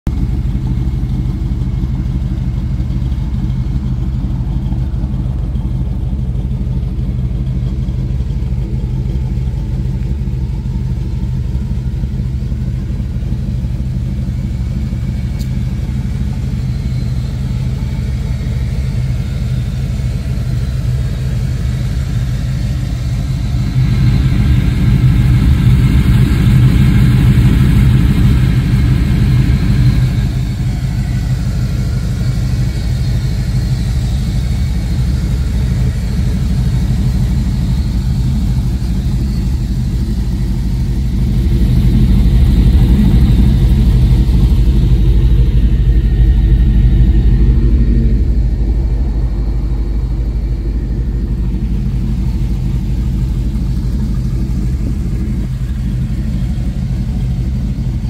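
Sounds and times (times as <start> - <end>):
car engine rumbling: 0.0 - 58.0.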